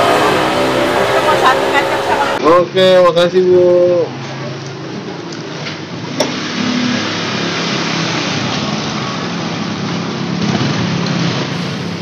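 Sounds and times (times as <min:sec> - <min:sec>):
vehicle engines running: 0:00.0 - 0:02.4, 0:04.2 - 0:12.0.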